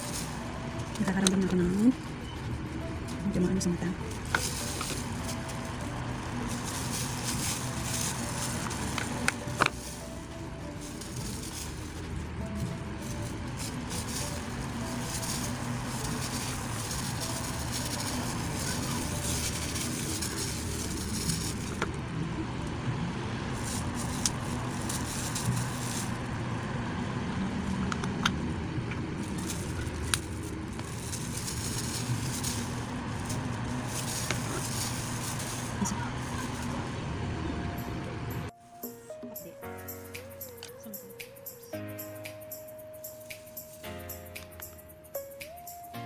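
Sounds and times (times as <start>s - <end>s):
low background rumble: 0.0s - 38.5s.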